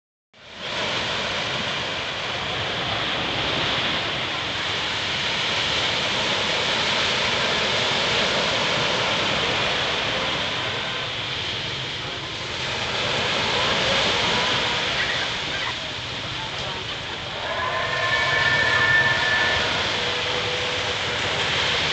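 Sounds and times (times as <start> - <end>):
waves washing on a beach: 0.4 - 21.9.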